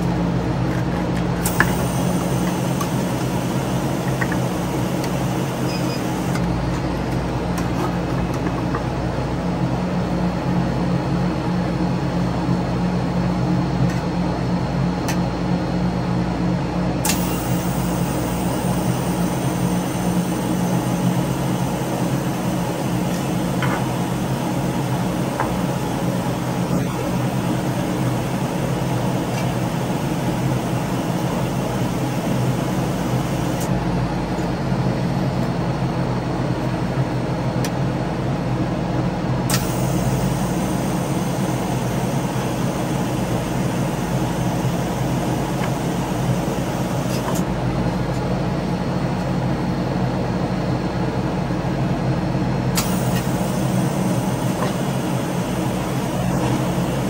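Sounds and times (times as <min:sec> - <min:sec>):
mechanical hum: 0:00.0 - 0:57.0.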